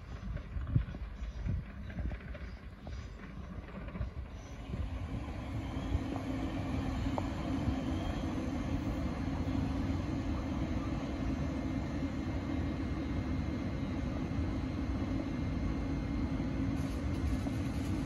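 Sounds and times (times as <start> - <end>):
train humming and rumbling: 0.0 - 18.0.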